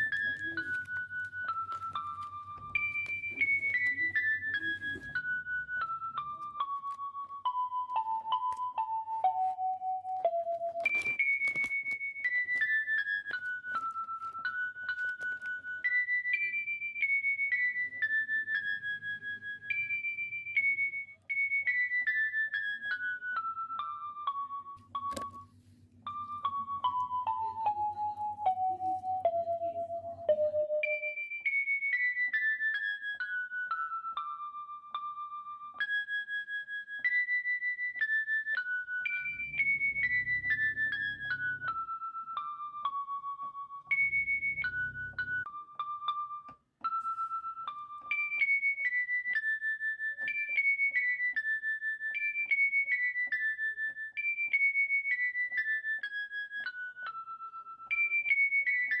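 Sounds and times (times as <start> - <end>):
simple keyboard melody: 0.0 - 59.0.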